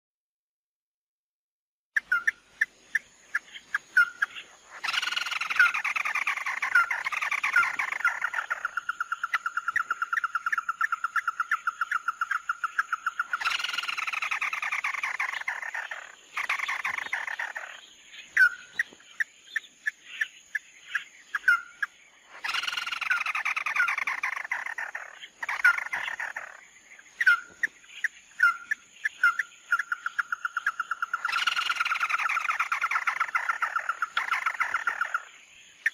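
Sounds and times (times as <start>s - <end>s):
bird whistled notes and trills: 2.0s - 35.9s
many bird calls overlapping: 2.0s - 35.9s.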